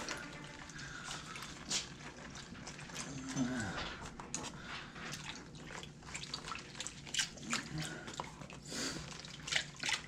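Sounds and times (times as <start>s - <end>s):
water drips and splashes: 0.0s - 10.0s
water sloshing in a pan: 0.0s - 10.0s.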